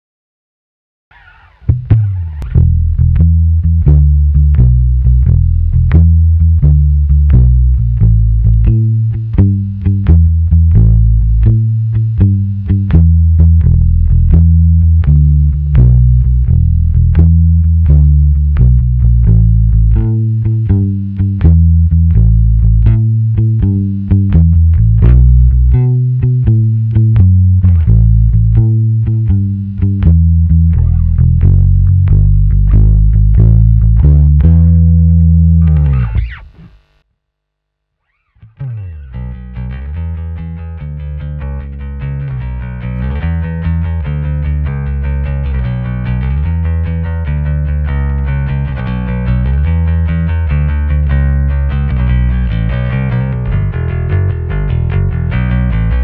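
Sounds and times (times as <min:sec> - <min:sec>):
electric bass plucked notes: 0:01.1 - 0:37.0, 0:38.1 - 0:56.0.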